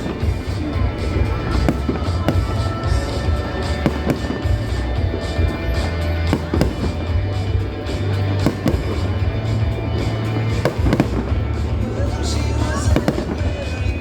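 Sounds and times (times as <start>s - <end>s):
fireworks bangs: 0.0s - 14.0s
loud music with heavy bass: 0.0s - 14.0s.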